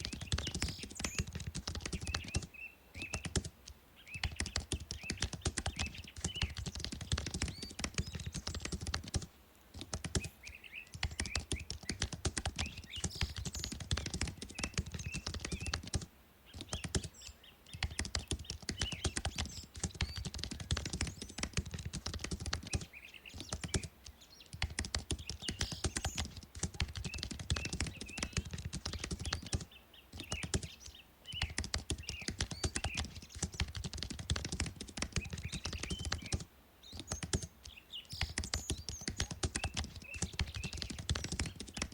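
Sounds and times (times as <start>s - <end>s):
fast typing on keyboard: 0.0s - 3.5s, 4.2s - 10.3s, 10.9s - 17.1s, 17.7s - 41.9s.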